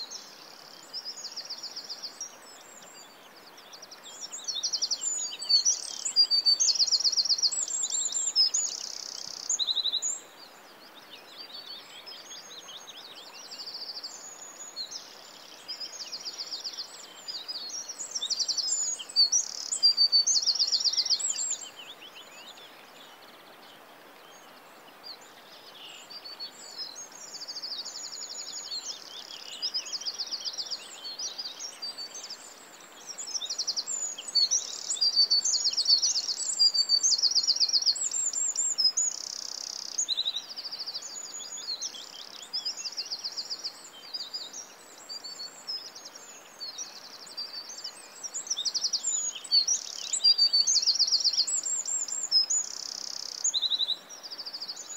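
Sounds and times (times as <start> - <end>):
small birds singing: 0.0 - 54.9.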